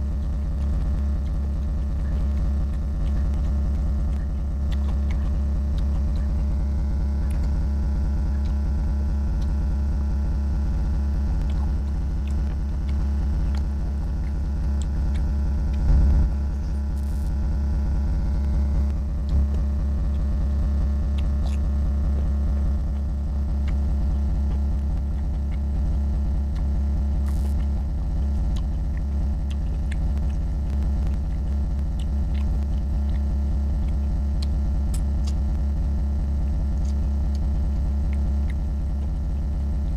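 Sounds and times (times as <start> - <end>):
steady low hum: 0.0 - 39.9
person chewing food: 0.1 - 36.0, 36.6 - 39.9.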